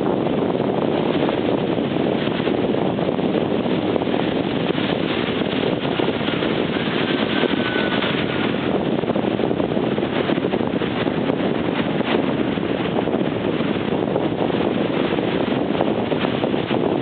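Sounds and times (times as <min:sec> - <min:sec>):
ocean surf: 0:00.0 - 0:17.0
wind on microphone: 0:00.0 - 0:17.0.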